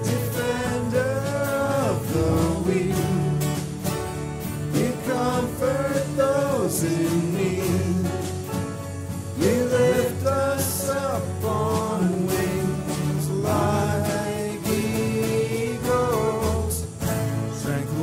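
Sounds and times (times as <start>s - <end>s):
person singing lead vocals: 0.0s - 3.9s, 4.6s - 8.6s, 9.3s - 18.0s
band accompaniment: 0.0s - 18.0s.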